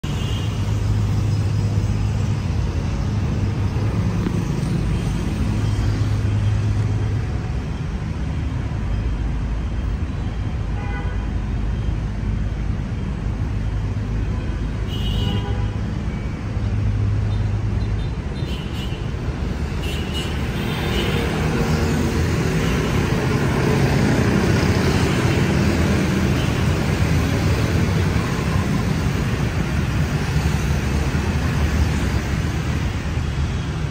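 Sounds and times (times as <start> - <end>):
traffic engine rumble: 0.0 - 33.9.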